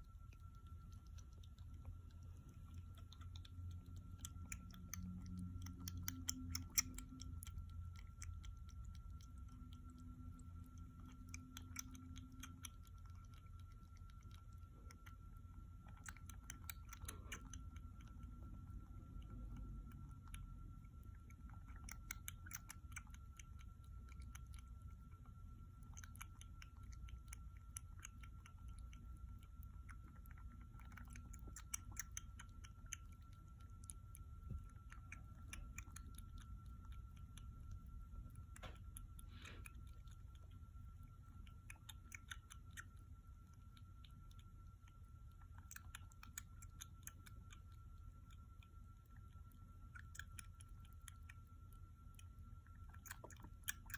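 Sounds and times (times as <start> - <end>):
faint steady high tone: 0.0 - 53.9
kitten suckling wet clicks: 0.0 - 53.9.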